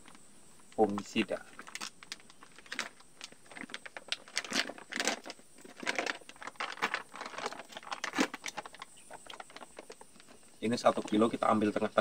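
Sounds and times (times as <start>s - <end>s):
plastic pouch crinkling: 0.8s - 11.8s.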